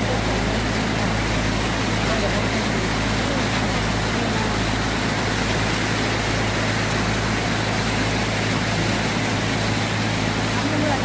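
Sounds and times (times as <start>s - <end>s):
boat engine running: 0.0s - 11.0s
rushing water: 0.0s - 11.0s.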